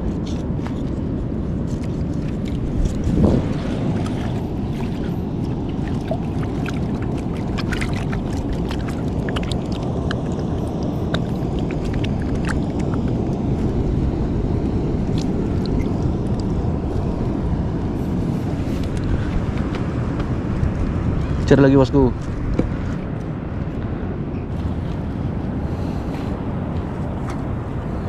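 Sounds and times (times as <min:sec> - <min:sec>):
sea: 0:00.0 - 0:28.0
wind: 0:00.0 - 0:28.0.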